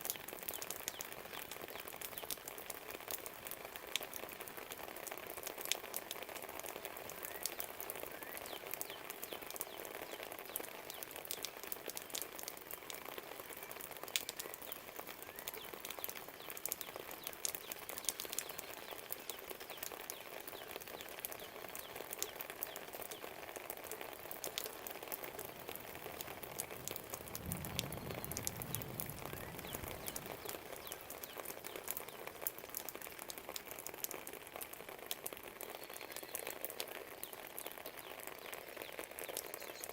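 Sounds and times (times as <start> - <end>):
steady rain: 0.0 - 39.9
faint birdsong: 5.8 - 33.3, 35.5 - 39.9.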